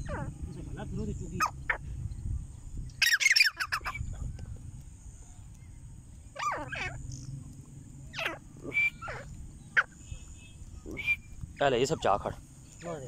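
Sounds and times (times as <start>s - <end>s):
francolin calling: 0.0s - 7.3s, 8.0s - 13.0s.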